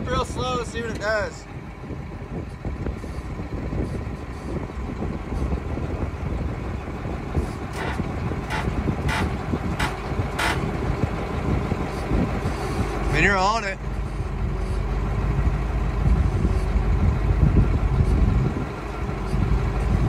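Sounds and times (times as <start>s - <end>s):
heavy diesel machine running: 0.0s - 20.0s.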